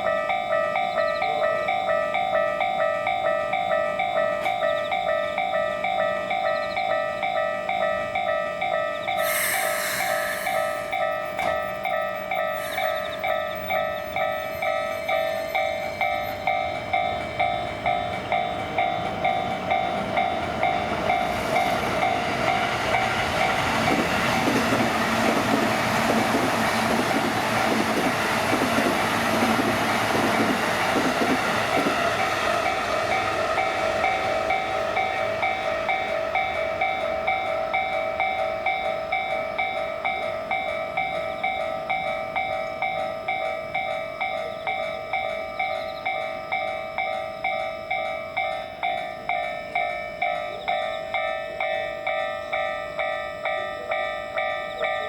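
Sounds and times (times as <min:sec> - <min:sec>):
level-crossing warning bell: 0:00.0 - 0:55.0
train rumbling past: 0:00.0 - 0:55.0.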